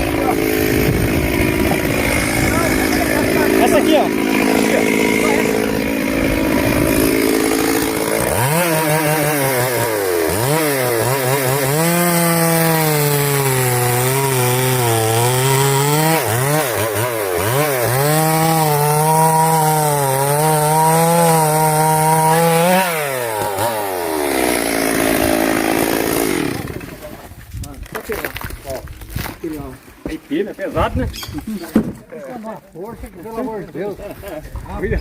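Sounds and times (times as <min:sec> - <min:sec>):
chainsaw cutting wood: 0:00.0 - 0:29.6.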